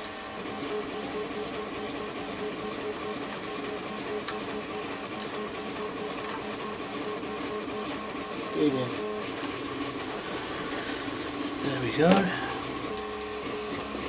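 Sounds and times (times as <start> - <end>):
stepper motors whirring: 0.0 - 14.0.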